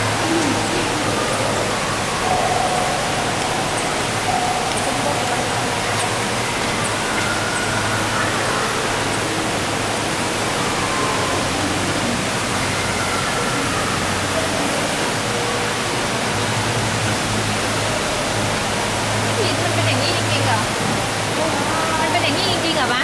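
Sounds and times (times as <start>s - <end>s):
faint voices: 0.0s - 16.4s, 19.2s - 23.0s.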